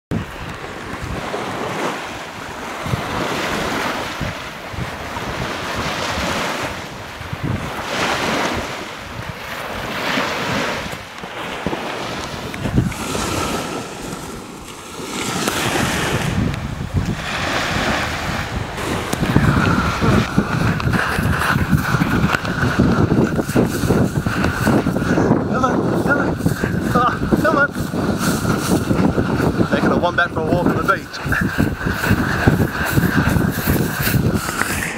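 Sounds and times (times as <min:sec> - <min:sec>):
surf washing on beach: 0:00.1 - 0:34.9
wind buffeting microphone: 0:00.1 - 0:34.9.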